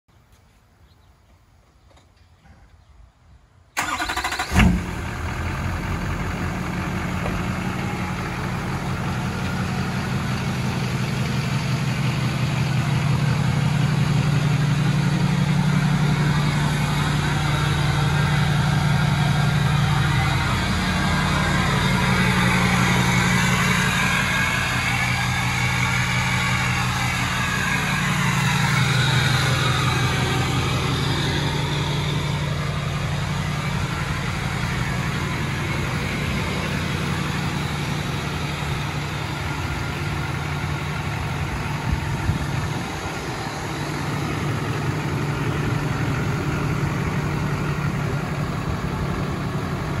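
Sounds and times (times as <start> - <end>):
diesel engine idling: 3.8 - 50.0.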